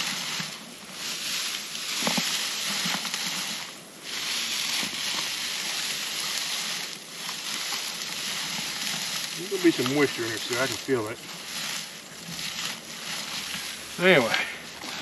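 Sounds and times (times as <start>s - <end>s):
hay rustling in hands: 0.0s - 15.0s.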